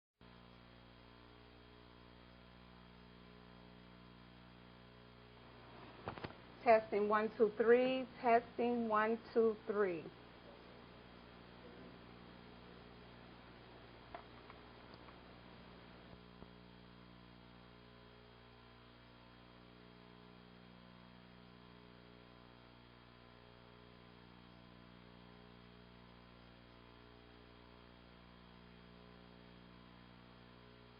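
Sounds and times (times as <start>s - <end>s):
faint electrical hum: 0.2s - 30.9s.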